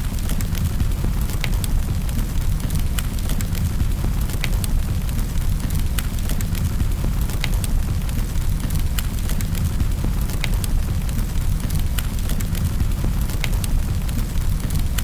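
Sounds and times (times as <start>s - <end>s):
low rumble of fire: 0.0s - 15.0s
fire snapping and popping: 0.1s - 15.0s.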